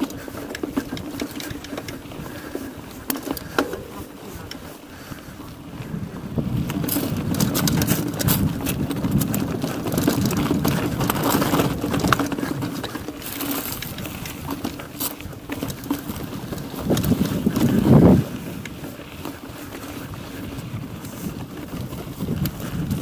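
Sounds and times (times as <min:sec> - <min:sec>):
bike rattling and clicking: 0:00.0 - 0:23.0
wind rumble on microphone: 0:00.0 - 0:23.0.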